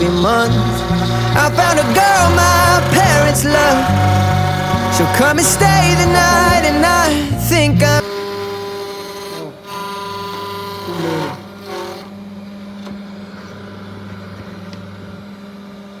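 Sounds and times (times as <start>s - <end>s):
machine spindle motor whine: 0.0s - 16.0s.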